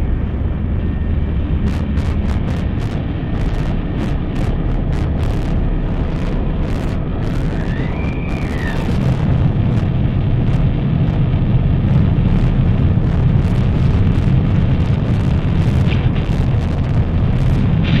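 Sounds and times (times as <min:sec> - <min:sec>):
low rumbling noise drone: 0:00.0 - 0:18.0
faint crackles: 0:01.6 - 0:18.0.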